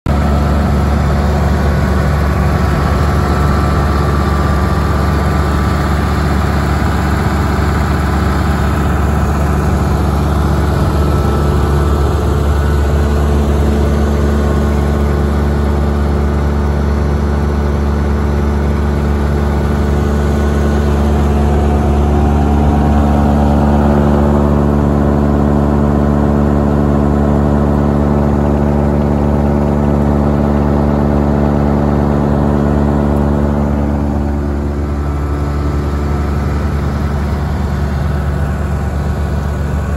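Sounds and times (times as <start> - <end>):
tractor diesel engine running: 0.1 - 39.9.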